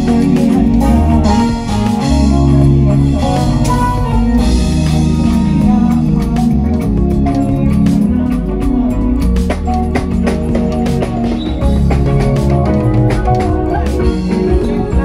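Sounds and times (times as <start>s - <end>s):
bass line: 0.0s - 15.0s
drum kit hits: 0.0s - 15.0s
live band over pa: 0.0s - 15.0s.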